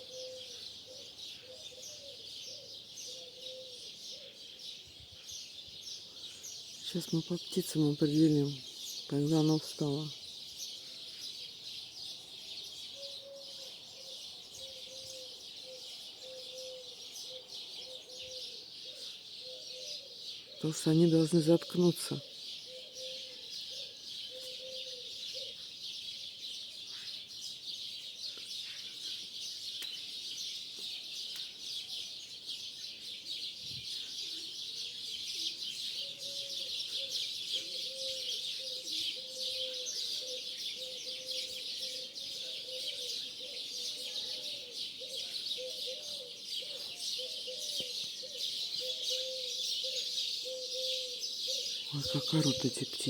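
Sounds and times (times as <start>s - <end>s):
flock of starlings chattering: 0.0s - 53.0s.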